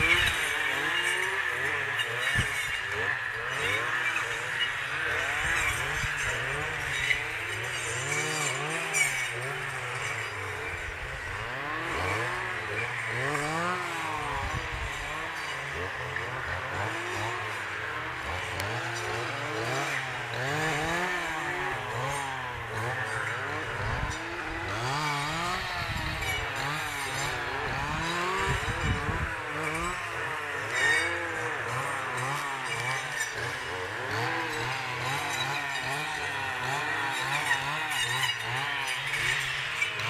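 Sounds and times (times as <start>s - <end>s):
brush cutter engines revving: 0.0s - 40.0s.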